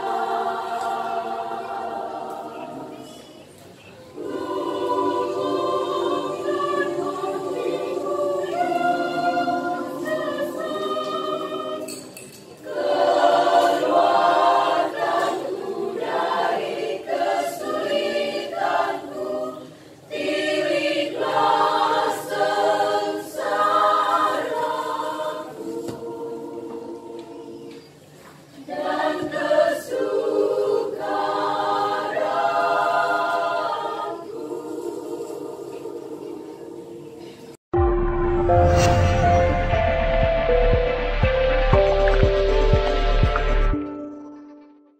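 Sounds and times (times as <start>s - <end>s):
women's choir singing in harmony: 0.0s - 37.6s.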